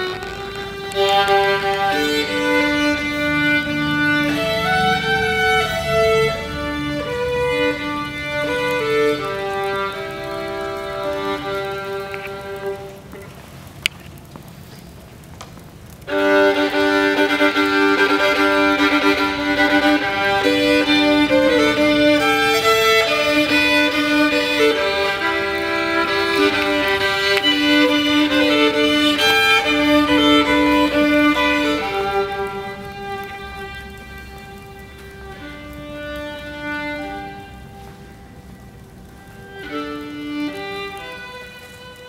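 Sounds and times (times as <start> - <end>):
violin playing long held notes: 0.0 - 13.3, 16.0 - 42.0.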